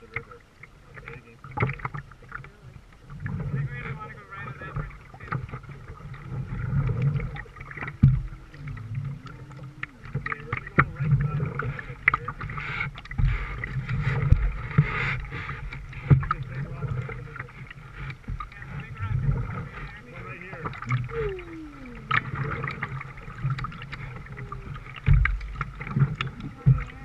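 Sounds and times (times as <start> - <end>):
water swishing around paddle: 0.0 - 27.0.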